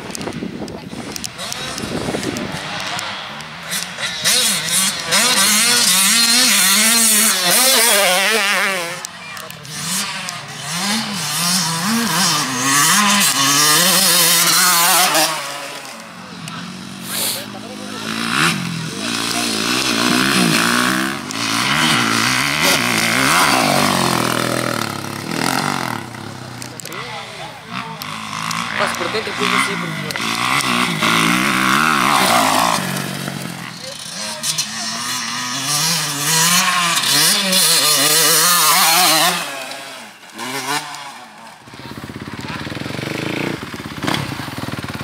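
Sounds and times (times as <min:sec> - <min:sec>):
motocross bike engine revving: 0:00.0 - 0:45.0.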